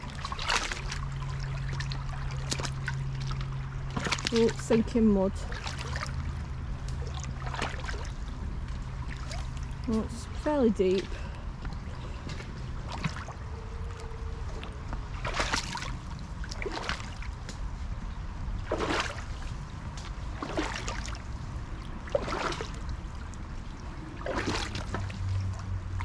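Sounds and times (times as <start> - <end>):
sloshing water from wading: 0.0 - 26.0.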